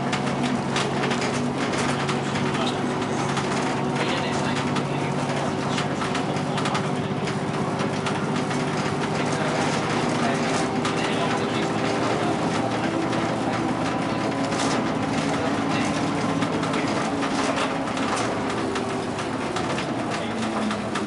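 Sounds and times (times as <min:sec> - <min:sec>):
bus engine humming: 0:00.0 - 0:21.0
interior rattles: 0:00.0 - 0:21.0.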